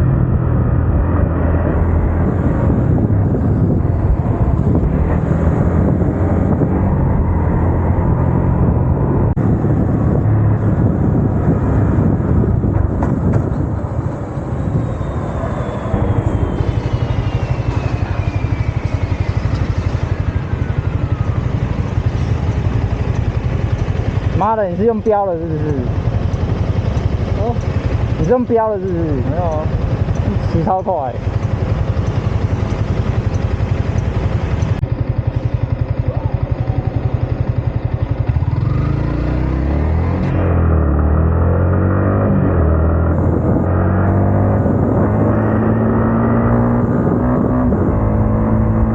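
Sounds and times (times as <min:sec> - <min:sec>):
wind noise: 0:00.0 - 0:35.8, 0:36.9 - 0:48.9
motorcycle engine pulsing: 0:00.1 - 0:48.9.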